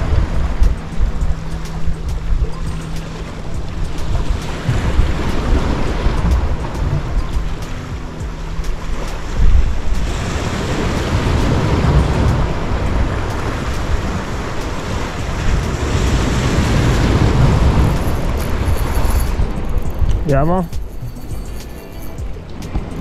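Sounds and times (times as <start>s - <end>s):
sea waves breaking on concrete: 0.0s - 21.1s
wind buffeting microphone: 0.0s - 23.0s.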